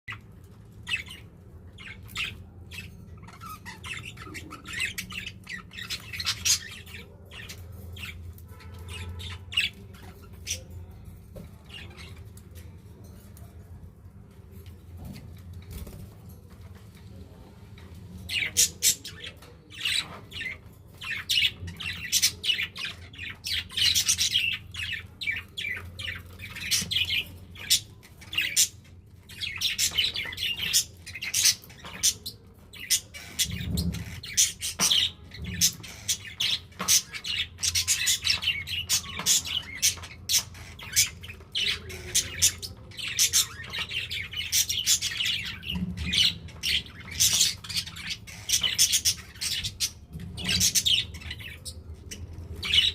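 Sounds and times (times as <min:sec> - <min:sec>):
budgerigars chirping and squawking: 0:00.1 - 0:12.7, 0:17.3 - 0:52.9.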